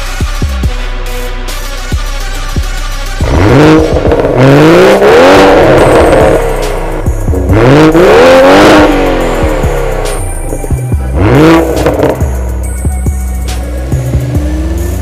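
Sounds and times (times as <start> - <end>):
car engine revving: 2.9 - 15.0.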